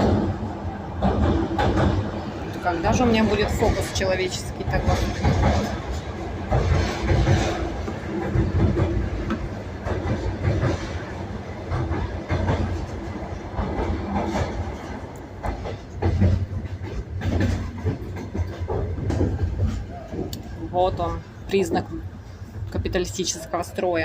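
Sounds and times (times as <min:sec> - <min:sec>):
clacks over rail joints: 0:00.0 - 0:23.3
train wheels rumbling on rails: 0:00.0 - 0:24.0.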